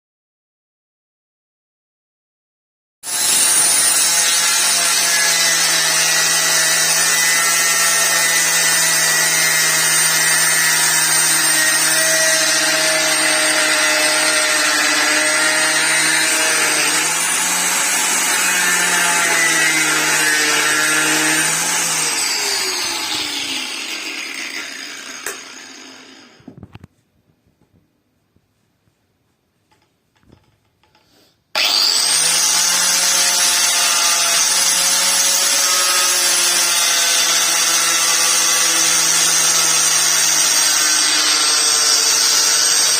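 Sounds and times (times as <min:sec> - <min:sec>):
angle grinder grinding: 0:03.1 - 0:26.6, 0:29.8 - 0:42.9.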